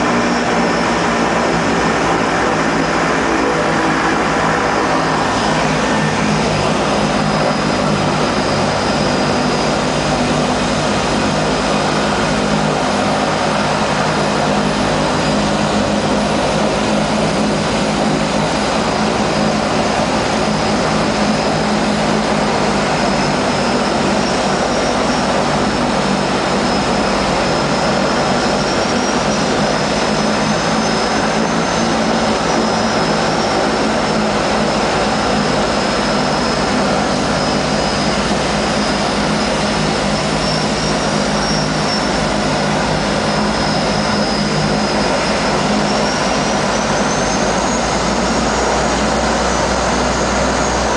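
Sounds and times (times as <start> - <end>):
high engine whine: 0.0 - 50.9
turboprop engines droning: 0.0 - 50.9.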